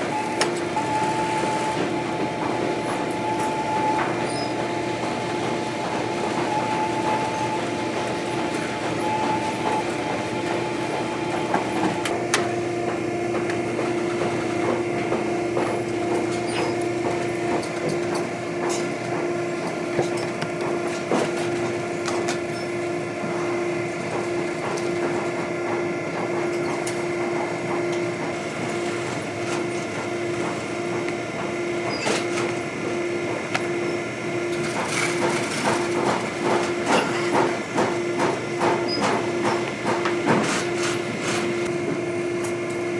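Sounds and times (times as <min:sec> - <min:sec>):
machine humming: 0:00.0 - 0:42.9.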